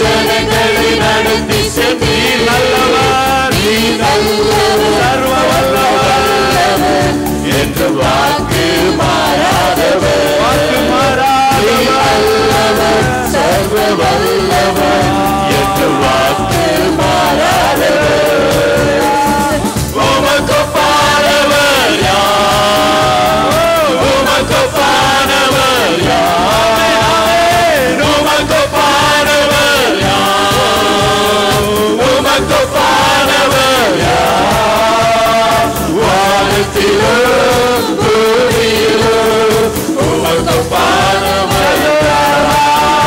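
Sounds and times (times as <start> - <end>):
instrumental backing music: 0.0 - 43.0
man singing into microphone: 0.0 - 43.0
steady drum beat: 0.0 - 43.0.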